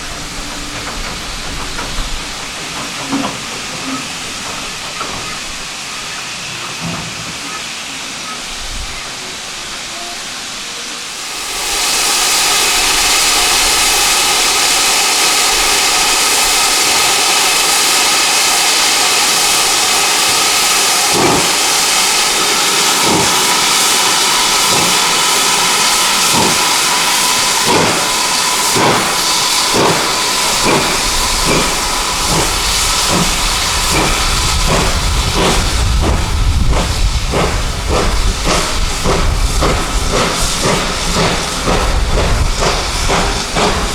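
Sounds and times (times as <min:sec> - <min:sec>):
low rumble of moving train: 0:00.0 - 0:43.9
steam hissing: 0:00.0 - 0:43.9
steam locomotive exhaust beats: 0:00.0 - 0:43.9.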